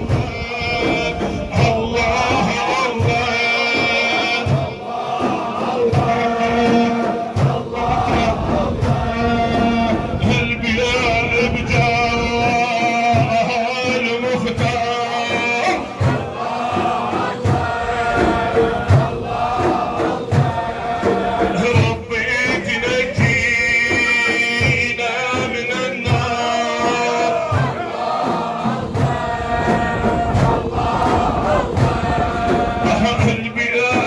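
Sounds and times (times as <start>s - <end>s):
man singing long held lines: 0.0s - 17.7s, 18.9s - 28.1s, 28.8s - 34.0s
group of men chanting: 0.0s - 34.0s
low drum beat: 0.0s - 34.0s.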